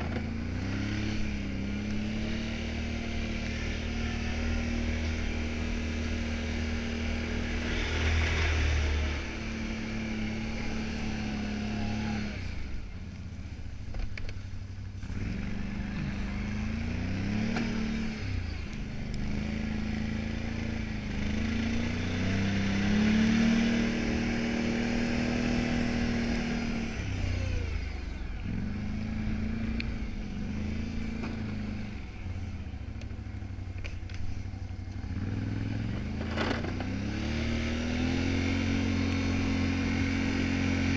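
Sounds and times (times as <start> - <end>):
atv engine revving: 0.0 - 40.9.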